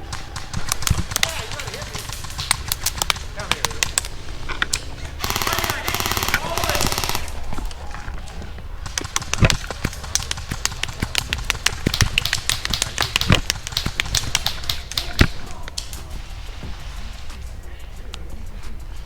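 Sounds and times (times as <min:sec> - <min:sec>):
loud cracks: 0:00.0 - 0:16.6
sharp clicks and snaps: 0:00.0 - 0:19.0.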